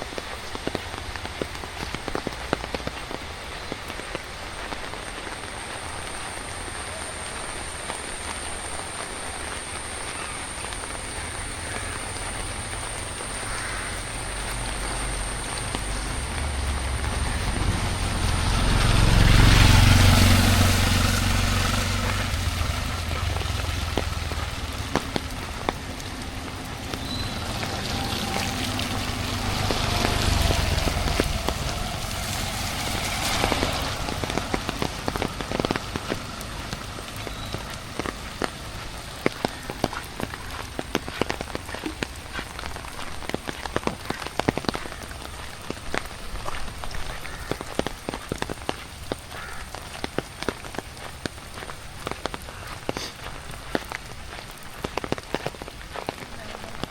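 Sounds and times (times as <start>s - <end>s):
steady rain: 0.0s - 56.9s
vehicle passing on wet road: 0.0s - 56.9s.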